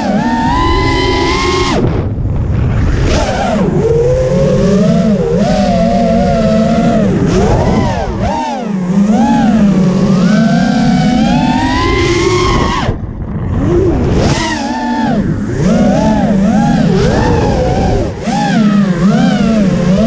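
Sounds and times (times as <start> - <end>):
drone motors whining: 0.0 - 20.0
wind rumble on microphone: 0.0 - 20.0.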